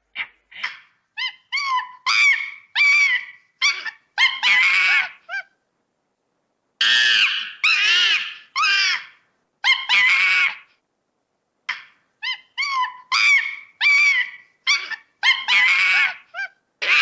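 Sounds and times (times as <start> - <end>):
monkey squealing calls: 0.2 - 5.5, 6.8 - 10.6, 11.7 - 17.0.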